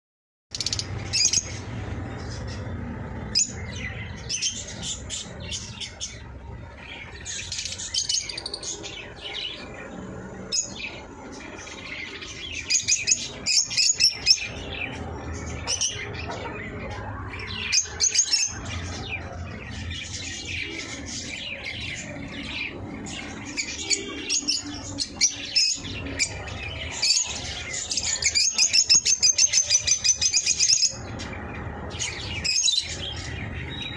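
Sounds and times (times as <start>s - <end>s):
low steady hum: 0.5s - 33.9s.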